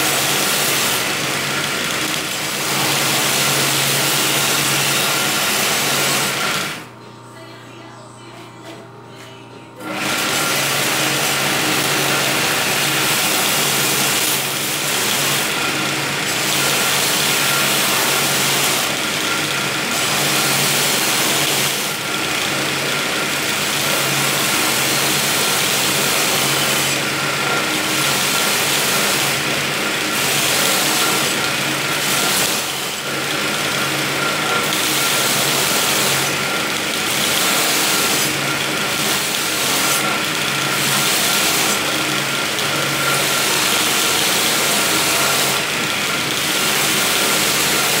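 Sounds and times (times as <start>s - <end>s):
blade grinding on belt: 0.0s - 6.8s, 9.8s - 48.0s
motor hum: 0.0s - 48.0s.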